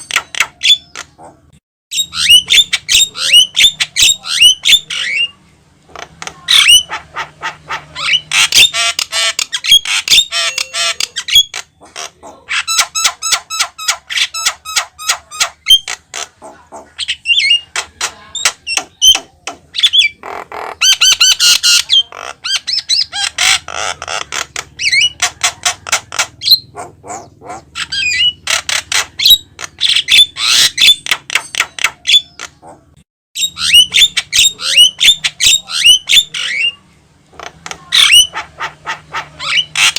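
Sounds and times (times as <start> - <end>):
bird singing chattering and whistling: 1.9 - 5.4, 6.2 - 32.7, 33.4 - 36.8, 37.4 - 39.9.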